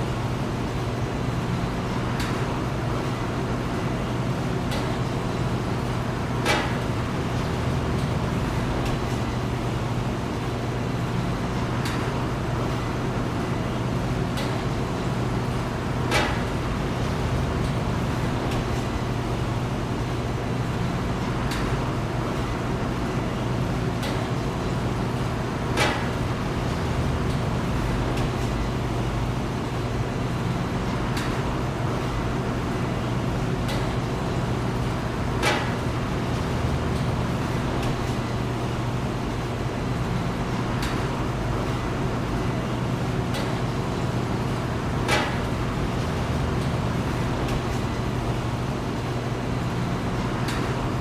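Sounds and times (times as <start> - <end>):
factory machinery hum: 0.0 - 51.0.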